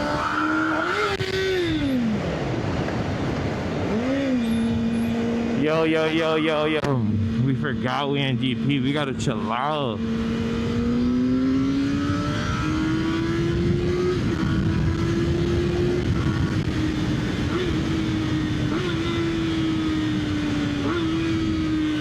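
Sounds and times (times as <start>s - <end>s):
motorcycle engine revving high: 0.0s - 2.3s, 3.7s - 22.0s.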